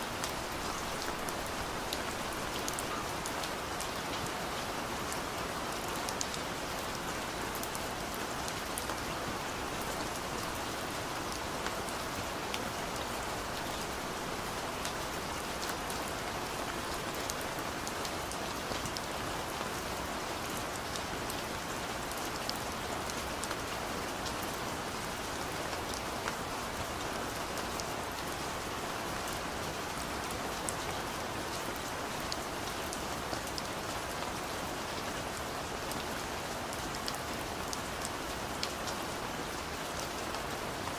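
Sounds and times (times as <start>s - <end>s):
rain on a car roof: 0.0s - 40.9s.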